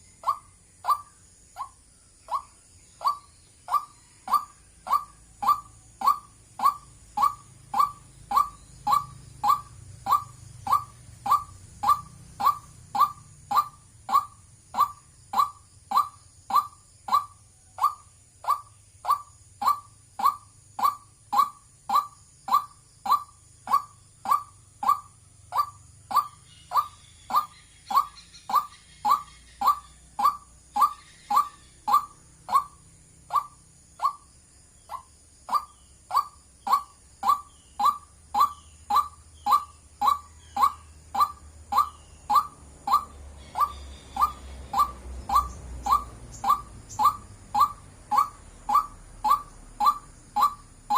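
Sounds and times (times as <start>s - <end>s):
faint higher bird calls: 0.0s - 50.9s
waterhen calling: 2.3s - 25.0s, 25.6s - 34.2s, 34.9s - 50.9s.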